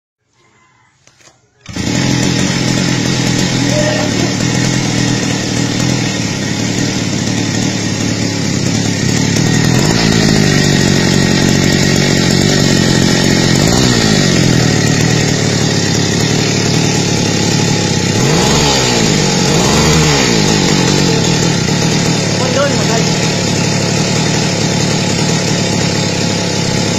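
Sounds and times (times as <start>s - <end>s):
two-stroke engine running: 1.6s - 26.9s.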